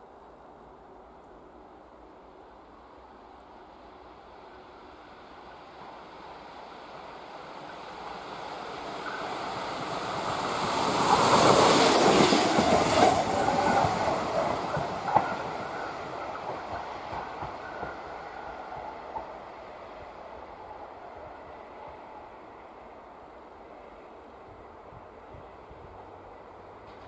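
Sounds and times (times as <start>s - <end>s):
train passing close by: 0.0s - 27.0s.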